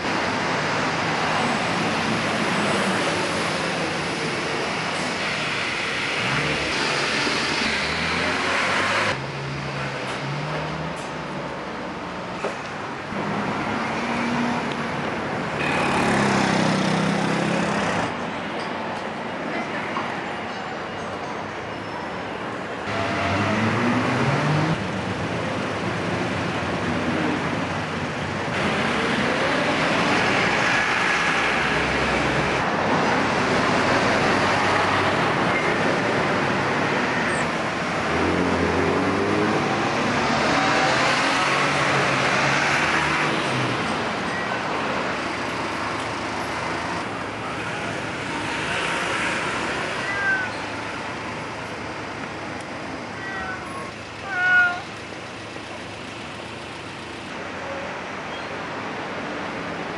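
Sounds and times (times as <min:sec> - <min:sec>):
cars and trucks passing: 0:00.0 - 0:59.9.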